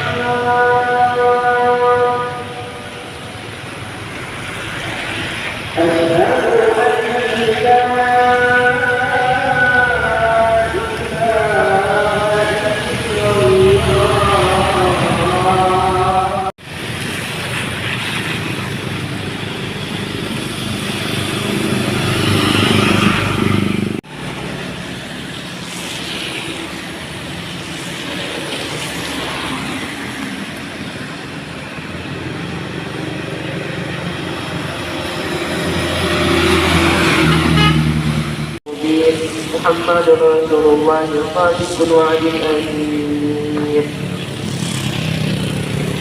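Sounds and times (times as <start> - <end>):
diesel truck engines passing: 0.0 - 46.0
tyre noise on wet road: 0.0 - 46.0.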